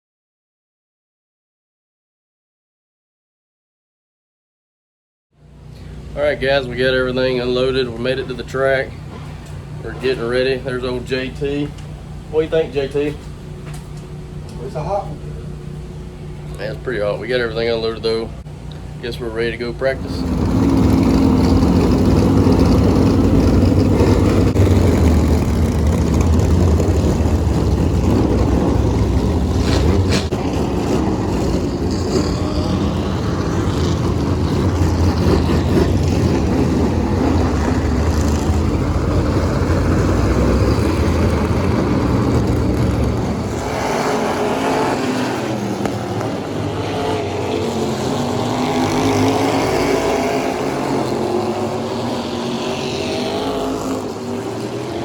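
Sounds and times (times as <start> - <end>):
higher engine note: 5.4 - 55.0
race car engines rumbling: 5.5 - 55.0.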